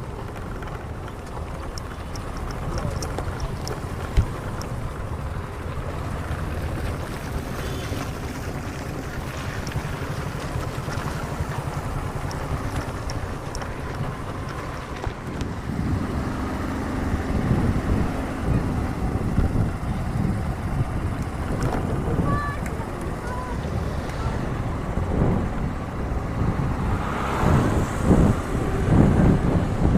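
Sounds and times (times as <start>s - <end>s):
vehicle engines rumbling: 0.0s - 29.9s
wind buffeting microphone: 0.0s - 29.9s.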